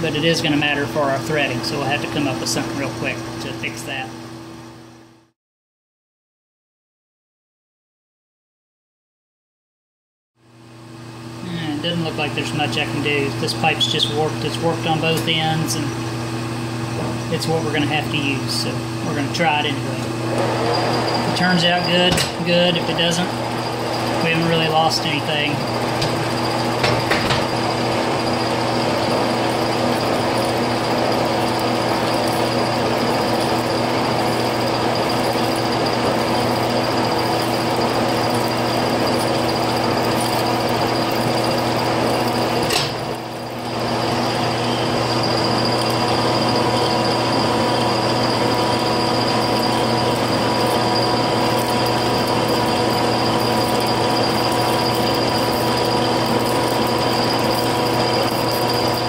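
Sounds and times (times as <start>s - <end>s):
metal lathe humming and whining: 11.7s - 59.0s.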